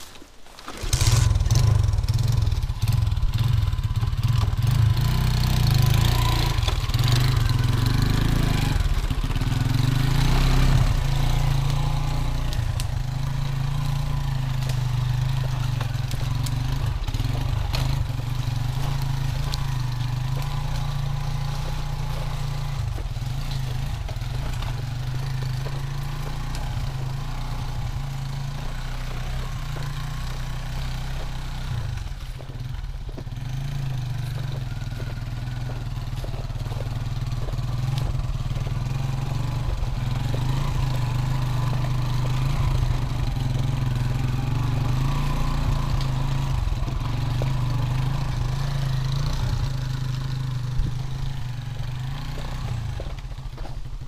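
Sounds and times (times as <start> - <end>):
motorcycle engine running: 0.7 - 54.0.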